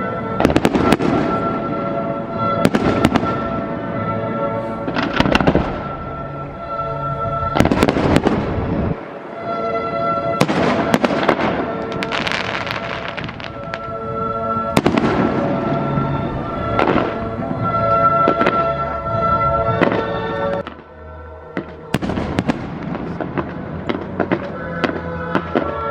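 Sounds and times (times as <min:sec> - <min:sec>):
fireworks bangs: 0:00.0 - 0:06.6, 0:07.4 - 0:20.9, 0:21.5 - 0:25.9
fireworks crackling: 0:00.0 - 0:06.6, 0:07.5 - 0:20.9, 0:21.5 - 0:25.9
music playing: 0:00.0 - 0:25.9.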